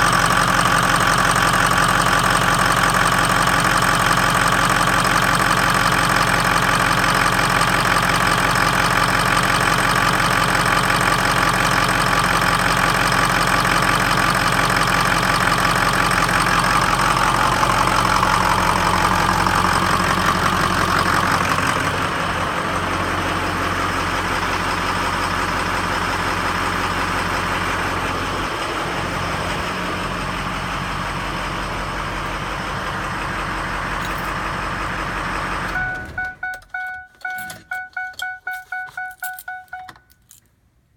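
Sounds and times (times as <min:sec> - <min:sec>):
diesel engine idling roughly: 0:00.0 - 0:36.8.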